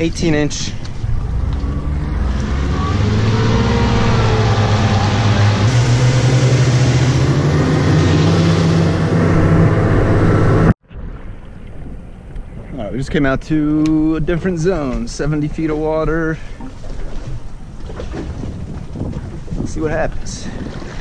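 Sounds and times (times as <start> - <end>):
outboard motors at speed: 0.0 - 13.2, 14.0 - 21.0
rushing wind and water: 0.0 - 21.0.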